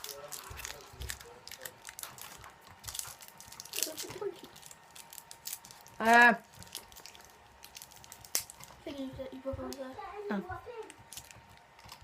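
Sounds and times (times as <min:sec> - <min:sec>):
packaging being opened by hand: 0:00.0 - 0:08.8, 0:10.8 - 0:12.0
cardboard and wrapper crinkling: 0:00.0 - 0:12.0.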